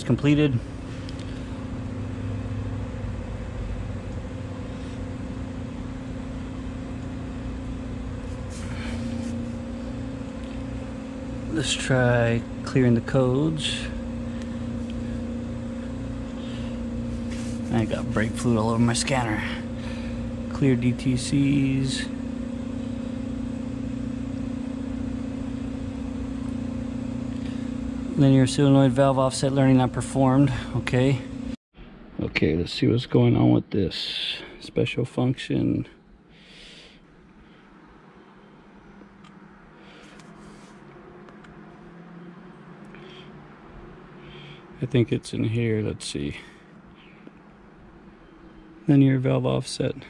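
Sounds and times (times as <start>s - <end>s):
steady mechanical hum: 0.0s - 50.0s.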